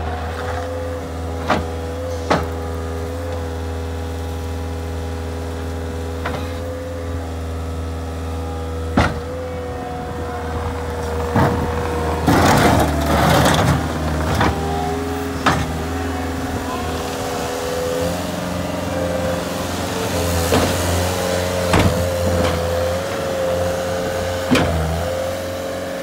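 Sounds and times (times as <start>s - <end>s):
steady whine: 0.0s - 26.0s
track loader diesel engine: 0.0s - 26.0s.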